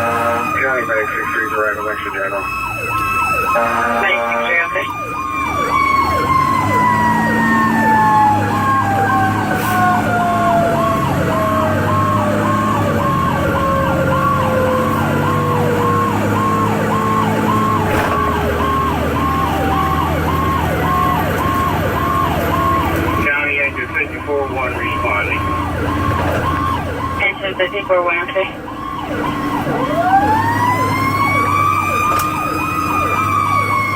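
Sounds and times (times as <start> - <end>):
mechanical siren winding down: 0.0 - 23.4, 24.2 - 27.3, 28.7 - 33.9
electronic siren yelping: 0.0 - 33.9
truck engine droning: 0.0 - 33.9.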